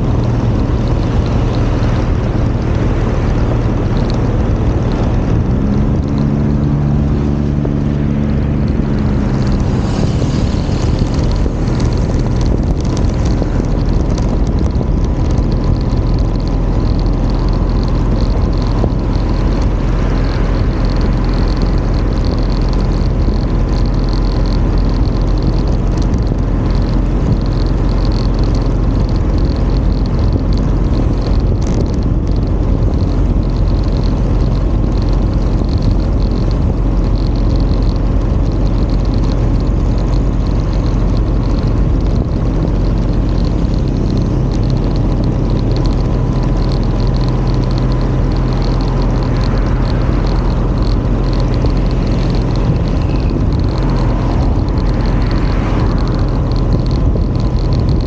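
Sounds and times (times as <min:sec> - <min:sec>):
vehicle engine running: 0:00.0 - 0:58.0
wind and road rumble: 0:00.0 - 0:58.0.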